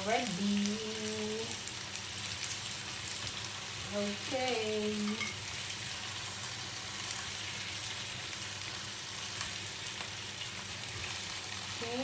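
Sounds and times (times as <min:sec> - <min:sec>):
chicken sizzling in pan: 0:00.0 - 0:12.0.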